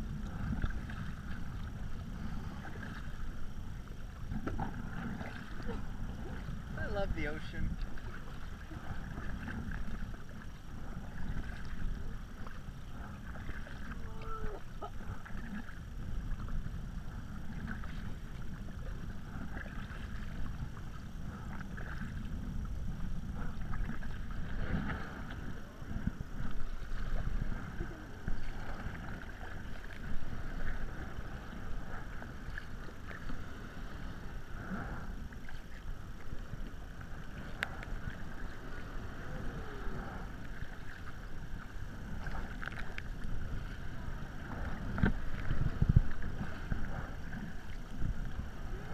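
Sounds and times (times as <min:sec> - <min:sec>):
kayak paddles splashing: 0:00.0 - 0:48.9
water washing against hull: 0:00.0 - 0:48.9
wind rumble on microphone: 0:00.0 - 0:48.9.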